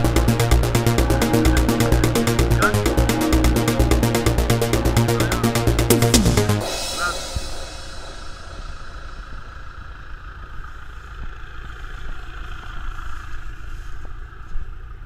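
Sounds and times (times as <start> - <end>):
vehicle driving through tall grass: 0.0 - 15.0
vehicle engine at low revs: 0.0 - 15.0.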